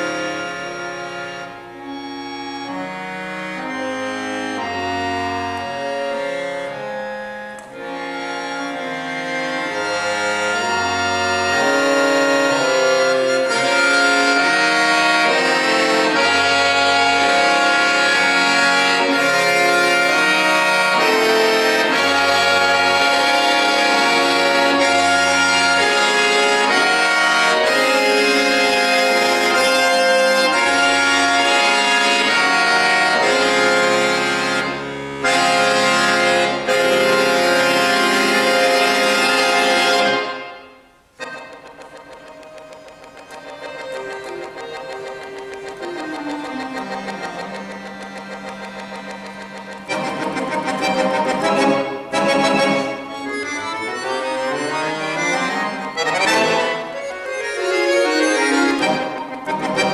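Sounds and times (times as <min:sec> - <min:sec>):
accordion playing chords: 0:00.0 - 0:59.9.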